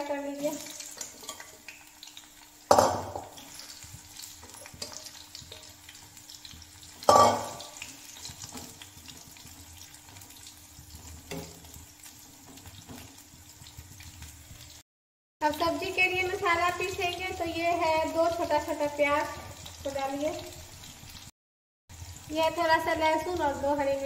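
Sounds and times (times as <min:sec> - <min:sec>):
deep-frying crackling and spitting: 0:00.0 - 0:14.8, 0:15.4 - 0:21.3, 0:21.9 - 0:24.0.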